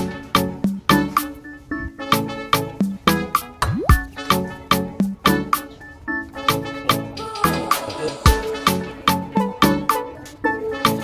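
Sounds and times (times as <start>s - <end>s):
instrumental music with quick beat: 0.0s - 11.0s.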